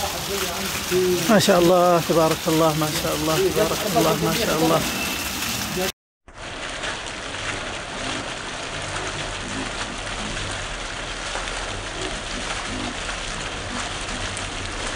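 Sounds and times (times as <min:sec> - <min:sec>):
heavy rain on leaves and paving: 0:00.0 - 0:14.9.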